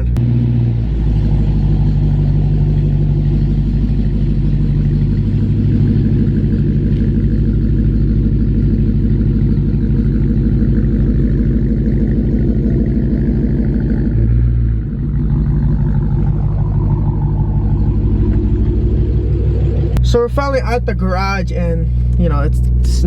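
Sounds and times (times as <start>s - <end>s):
car engine running at low revs: 0.0s - 23.0s.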